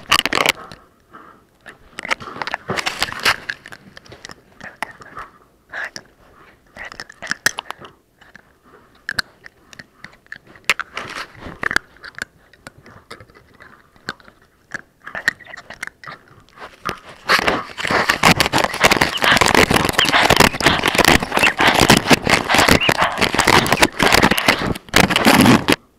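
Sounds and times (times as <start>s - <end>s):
puppies chewing on plastic camera: 0.0s - 0.9s, 1.6s - 25.9s.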